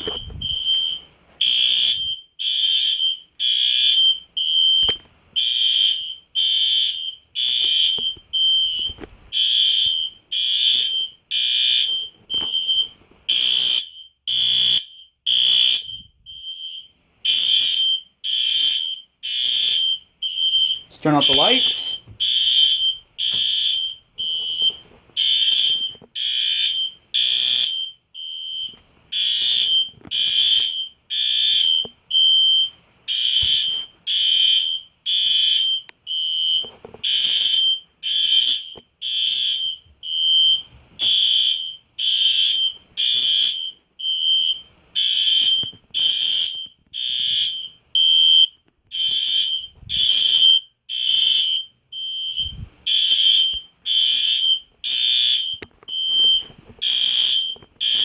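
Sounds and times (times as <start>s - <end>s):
fire alarm horns blasting: 0.0s - 58.0s.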